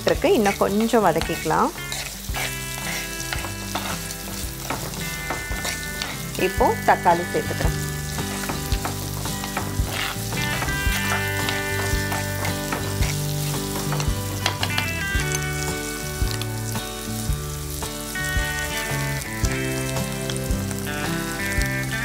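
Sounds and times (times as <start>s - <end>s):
onions sizzling in oil: 0.0s - 22.0s
instrumental music with a beat: 2.1s - 22.0s.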